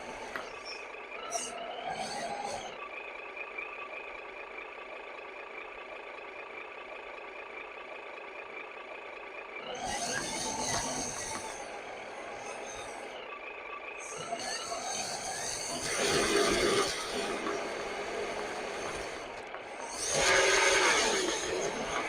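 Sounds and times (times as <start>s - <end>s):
model truck high-pitched whine: 0.0s - 22.0s.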